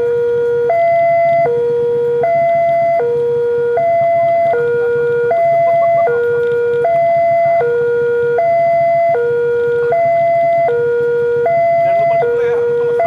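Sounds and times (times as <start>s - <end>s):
level crossing two-tone alarm: 0.0s - 13.0s.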